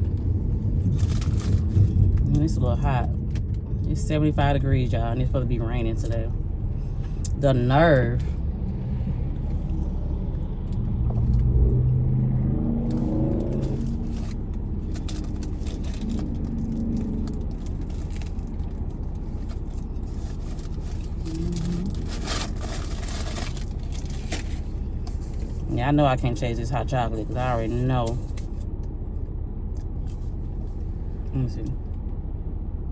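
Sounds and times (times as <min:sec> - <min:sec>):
car engine rumbling: 0:00.0 - 0:32.9.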